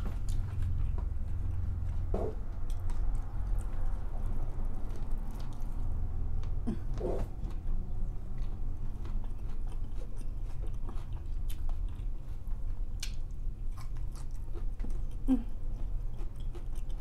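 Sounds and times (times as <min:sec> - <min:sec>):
person chewing crunchy food: 0:00.0 - 0:17.0
steady low hum: 0:00.0 - 0:17.0.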